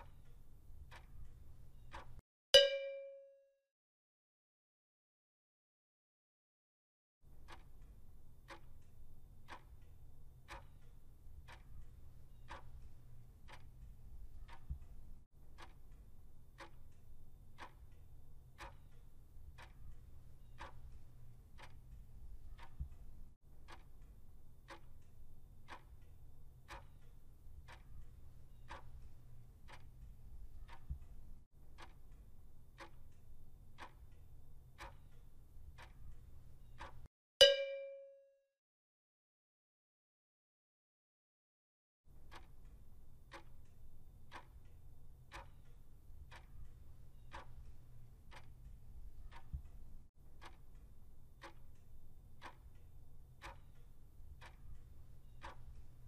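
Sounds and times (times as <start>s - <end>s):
clock ticking: 0.0s - 3.2s, 7.3s - 38.2s, 42.1s - 56.0s.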